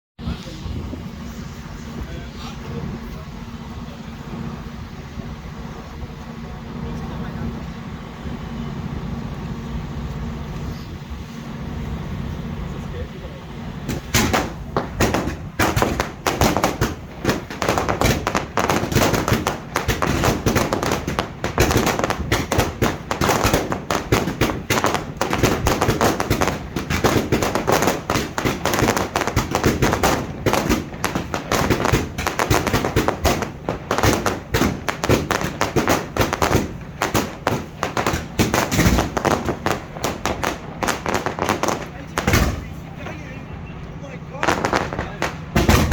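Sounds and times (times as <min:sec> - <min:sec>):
fireworks bangs and crackling: 0:00.2 - 0:45.9.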